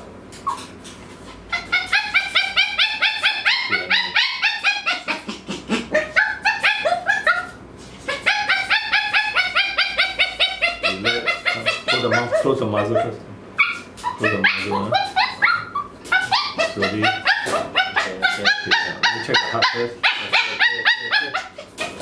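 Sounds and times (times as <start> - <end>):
dog yelping: 1.4 - 22.0.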